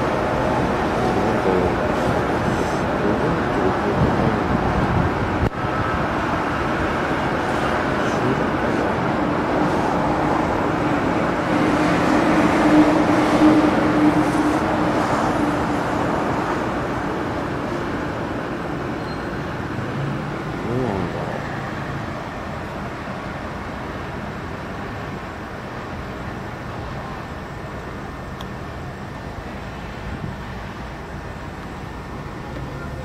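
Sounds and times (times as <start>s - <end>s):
vehicle engine hum: 0.0s - 15.9s, 16.7s - 33.0s
road traffic noise: 0.0s - 33.0s.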